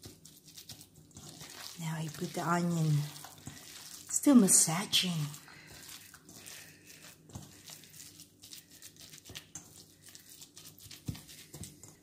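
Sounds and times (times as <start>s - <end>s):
hands squishing meat mince: 0.0s - 12.0s.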